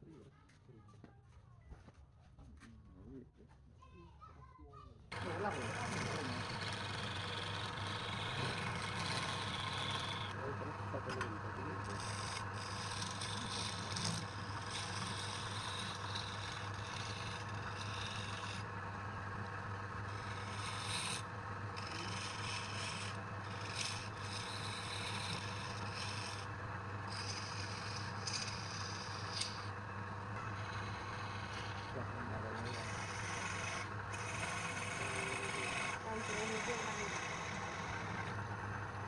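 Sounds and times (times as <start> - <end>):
tool scraping spinning wood: 5.1 - 39.0
wood lathe humming: 5.1 - 39.0.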